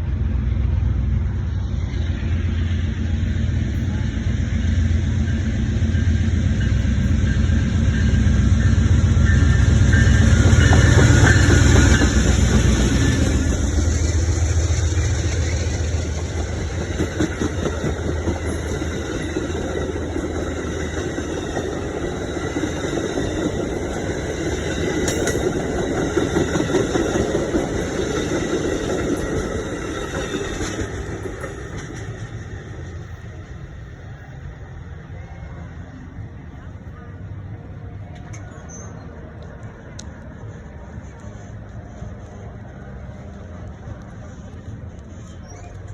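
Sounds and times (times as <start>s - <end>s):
locomotive engine rumble: 0.0s - 45.9s
rail cars rolling by: 0.0s - 45.9s.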